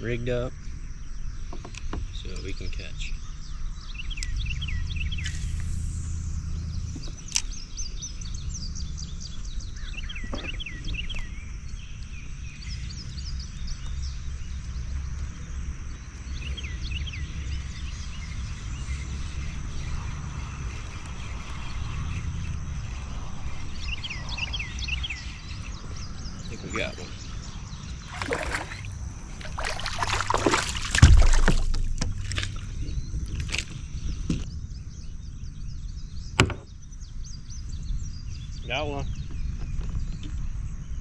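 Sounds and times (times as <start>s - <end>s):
songbirds chirping: 0.0s - 5.4s, 6.1s - 41.0s.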